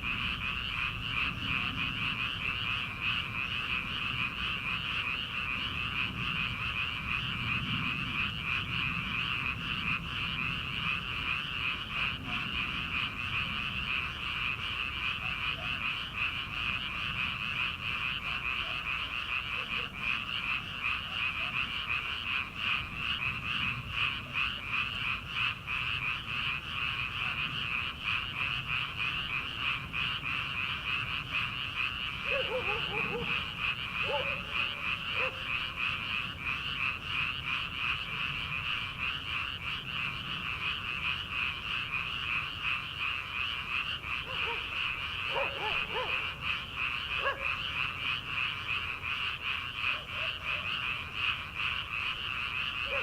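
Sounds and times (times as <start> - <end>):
chorus of frogs calling: 0.0 - 53.0
lower frog calls: 0.0 - 53.0.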